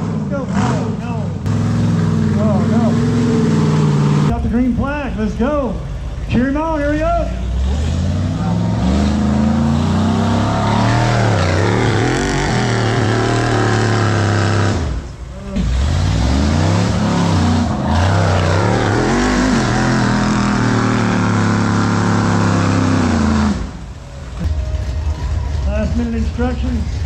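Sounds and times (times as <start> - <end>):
engine revving: 0.0 - 4.7, 7.4 - 24.9.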